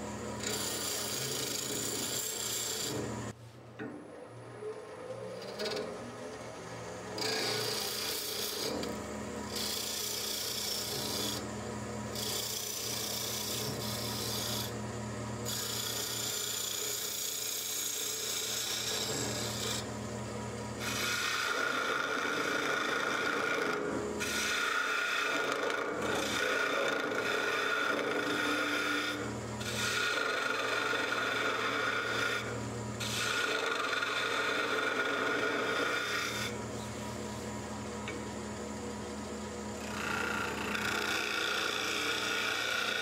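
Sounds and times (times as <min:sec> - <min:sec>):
chisel cutting wood: 0:00.0 - 0:03.3, 0:05.3 - 0:14.8, 0:15.4 - 0:20.0, 0:20.8 - 0:36.6, 0:39.7 - 0:43.0
lathe motor hum: 0:00.0 - 0:03.4, 0:04.1 - 0:43.0.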